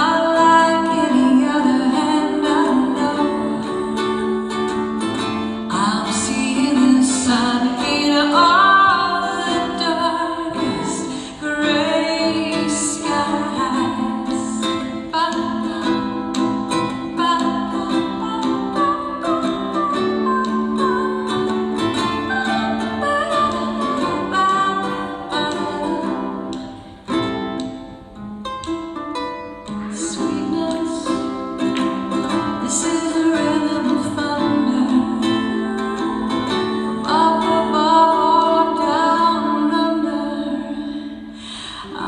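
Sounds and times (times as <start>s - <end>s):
woman singing: 0.0s - 27.0s, 29.6s - 42.0s
acoustic guitar: 0.0s - 42.0s.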